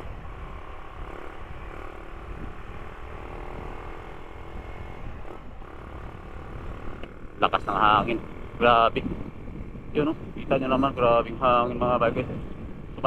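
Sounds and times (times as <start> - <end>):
motorcycle engine: 0.0 - 13.0
road noise: 0.0 - 13.0
wind rushing over microphone: 0.0 - 13.0.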